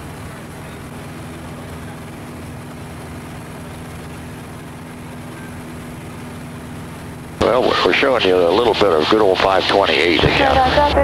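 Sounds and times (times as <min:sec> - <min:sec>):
aircraft engine and propeller drone: 0:00.0 - 0:11.0.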